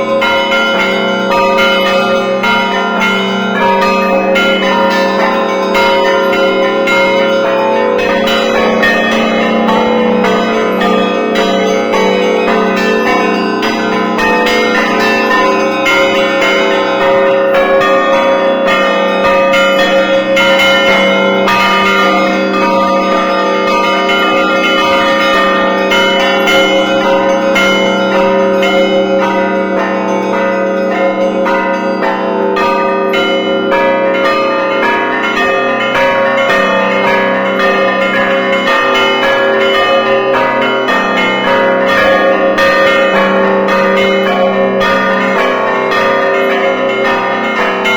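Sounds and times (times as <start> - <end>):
large bells sounding: 0.0 - 47.9.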